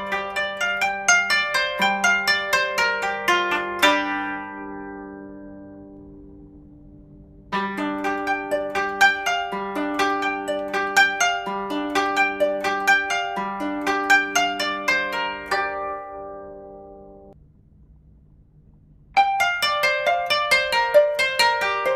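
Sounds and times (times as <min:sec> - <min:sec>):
harp-like plucked-string music: 0:00.0 - 0:17.4, 0:19.2 - 0:21.9.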